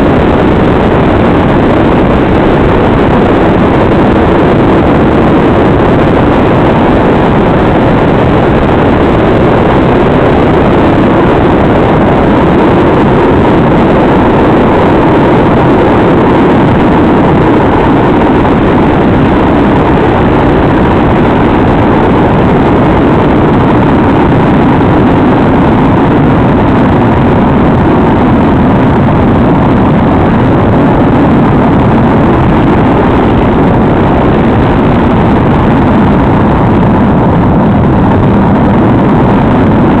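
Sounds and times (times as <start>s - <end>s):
muffled rushing static: 0.0s - 40.0s.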